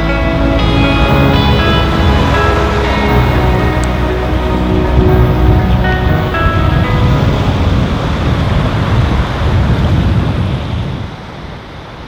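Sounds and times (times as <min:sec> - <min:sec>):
waves washing onto beach: 0:00.0 - 0:12.0
wind rumbling on microphone: 0:00.0 - 0:12.0.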